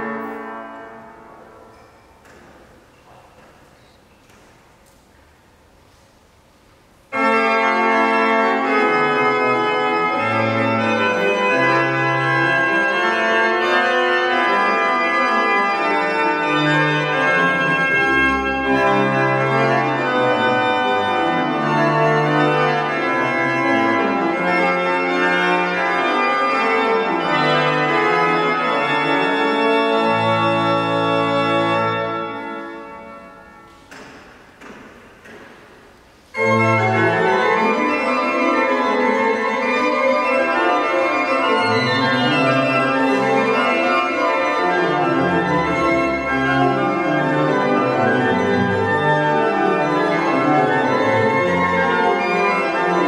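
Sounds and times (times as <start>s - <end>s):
pipe organ playing chords: 0.0s - 4.4s, 7.1s - 53.0s.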